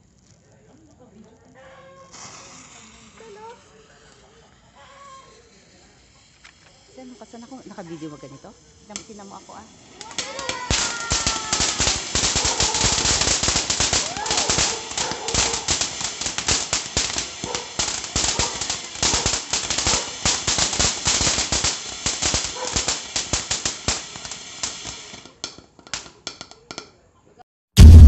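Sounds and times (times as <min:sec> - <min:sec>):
firework fountain crackling pops: 0:00.0 - 0:27.0, 0:27.8 - 0:28.0.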